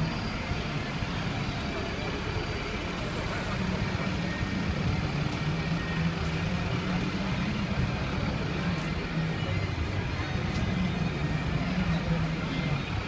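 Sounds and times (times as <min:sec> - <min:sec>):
traffic engine drone: 0:00.0 - 0:13.0.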